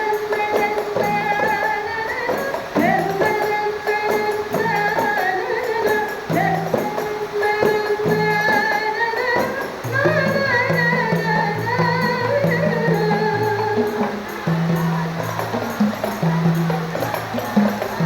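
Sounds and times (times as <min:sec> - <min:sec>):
frame drums beating: 0:00.0 - 0:18.0
person singing melody: 0:00.0 - 0:18.0.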